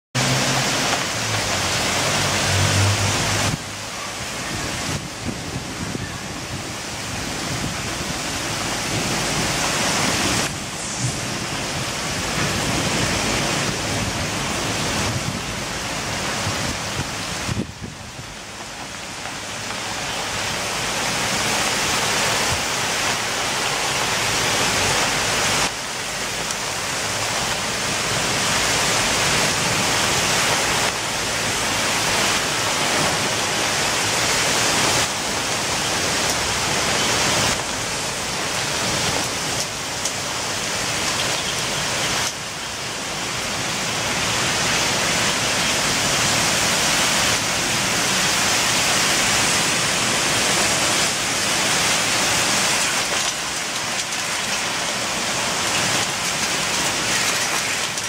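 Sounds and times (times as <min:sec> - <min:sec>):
heavy rain downpour: 0:00.1 - 0:58.0.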